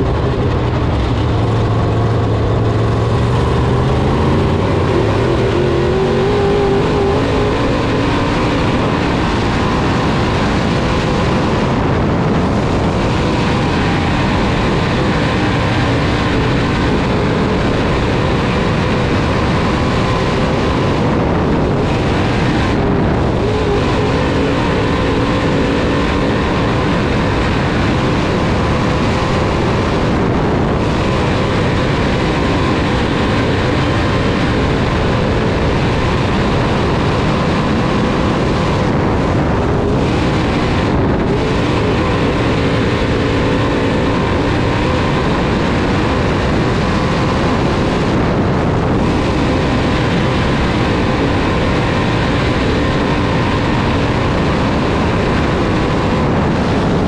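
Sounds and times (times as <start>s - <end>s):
race car engine running hard: 0.0s - 57.0s.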